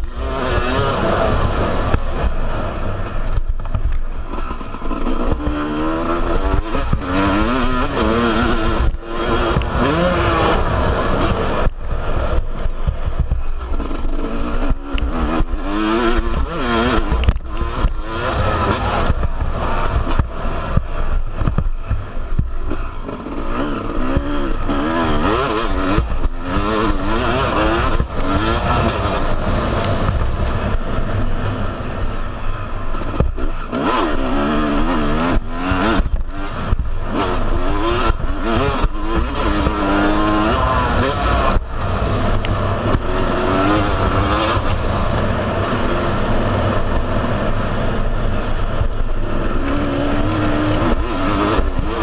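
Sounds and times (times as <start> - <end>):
two-stroke engine revving: 0.0 - 52.0.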